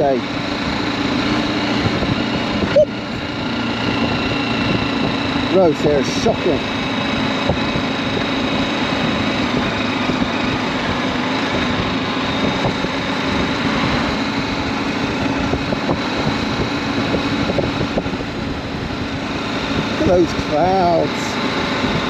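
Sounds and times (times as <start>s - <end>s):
motorcycle engine running: 0.0s - 22.0s
rushing ride noise: 1.0s - 8.0s, 9.1s - 22.0s.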